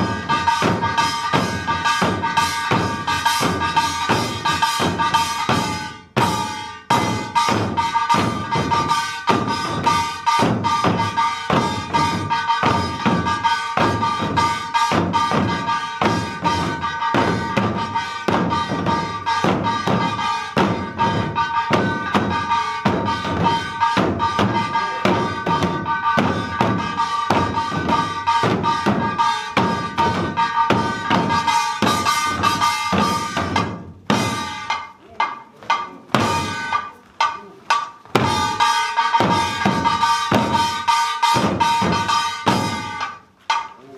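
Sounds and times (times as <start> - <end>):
barrel drums beaten in fast rhythm: 0.0 - 43.9.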